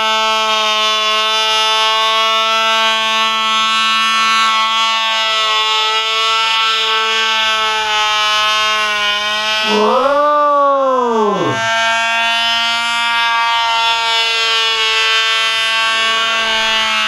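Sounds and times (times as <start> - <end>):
model engine high-pitched buzz: 0.0 - 17.0.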